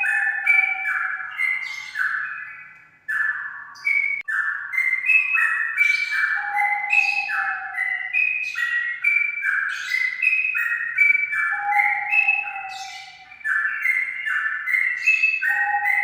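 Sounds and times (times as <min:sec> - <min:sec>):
bird singing flute-like warbling song: 0:00.0 - 0:16.0.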